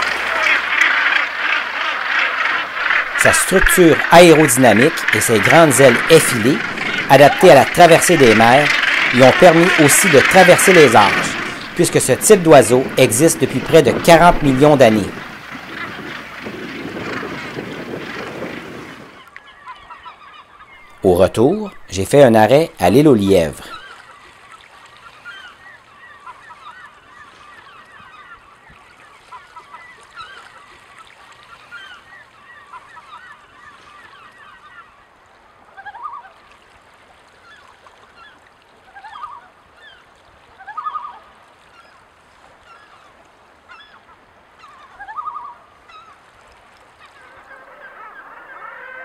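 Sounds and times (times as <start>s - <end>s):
waterbirds calling: 0.0s - 49.0s.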